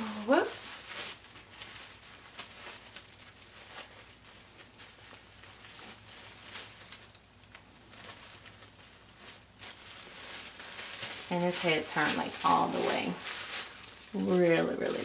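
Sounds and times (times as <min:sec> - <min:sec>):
faint rustling of tissue paper: 0:00.0 - 0:15.0
soft handling noises: 0:00.3 - 0:15.0.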